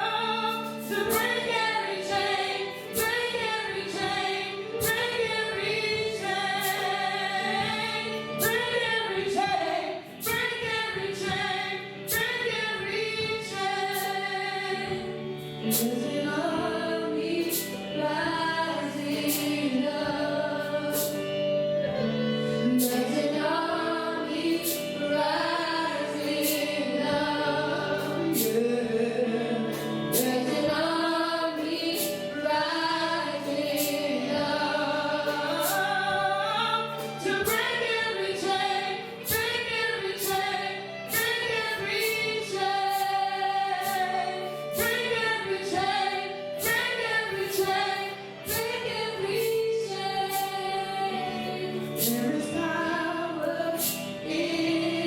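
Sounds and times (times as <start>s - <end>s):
voices singing worship song: 0.0s - 55.0s.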